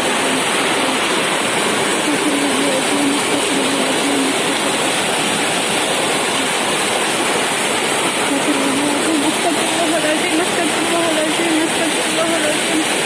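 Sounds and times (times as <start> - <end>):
hail and rain pouring: 0.0 - 13.0.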